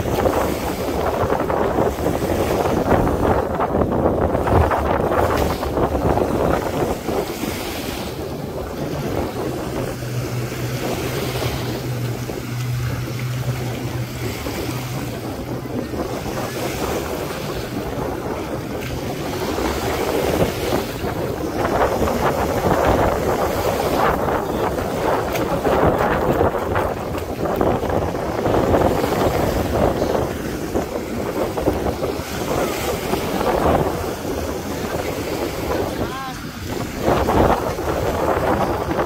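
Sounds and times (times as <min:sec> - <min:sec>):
surf washing onto beach: 0:00.0 - 0:39.0
wind rushing over microphone: 0:00.0 - 0:39.0.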